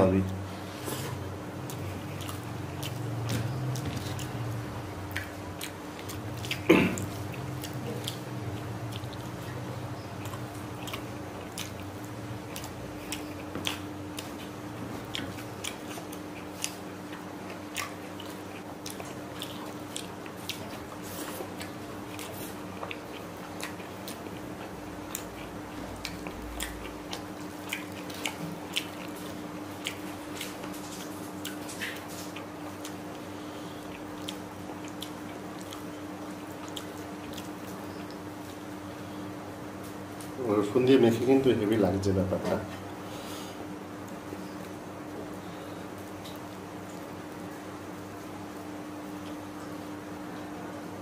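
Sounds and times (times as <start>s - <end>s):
man chewing food: 0.0s - 40.4s, 42.7s - 51.0s
faint steady hum: 0.0s - 51.0s.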